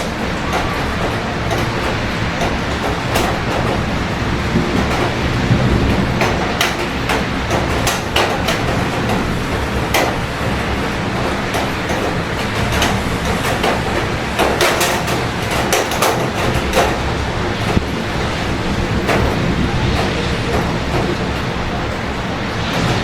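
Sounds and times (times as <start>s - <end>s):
city traffic rumble: 0.0s - 23.0s
rain drops tapping hard surface: 0.0s - 23.0s.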